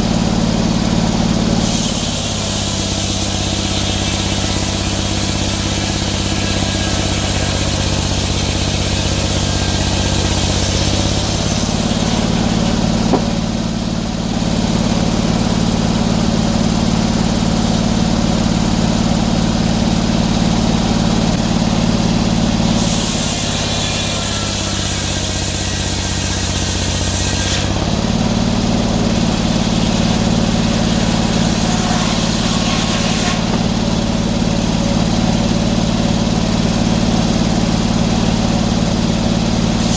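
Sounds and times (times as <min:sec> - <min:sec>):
sawmill engine sawing wood: 0:00.0 - 0:39.9.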